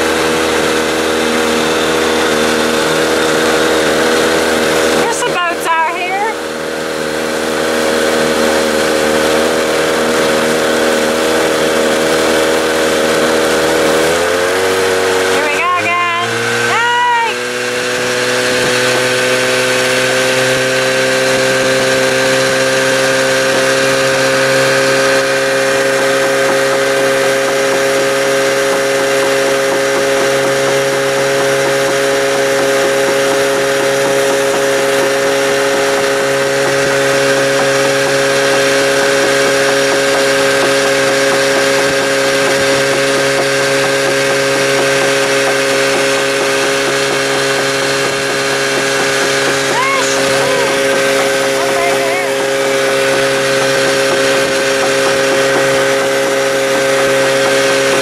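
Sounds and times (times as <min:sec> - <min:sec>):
engine running with steady hum: 0:00.0 - 0:58.0.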